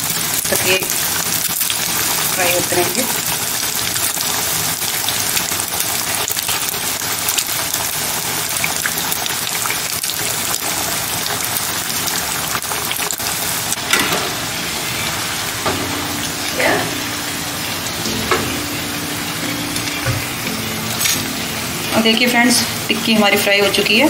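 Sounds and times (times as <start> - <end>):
patties frying in oil: 0.0 - 24.0.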